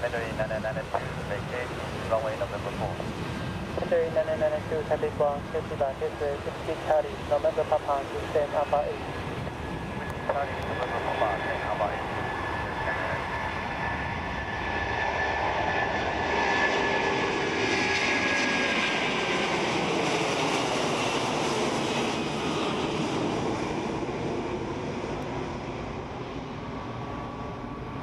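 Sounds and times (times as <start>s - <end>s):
jet engines passing by: 0.0s - 28.0s.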